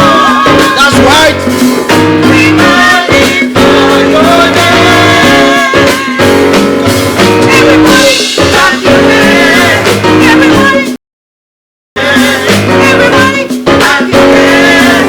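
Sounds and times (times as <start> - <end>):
choir singing with instruments: 0.0 - 11.0, 12.0 - 15.0.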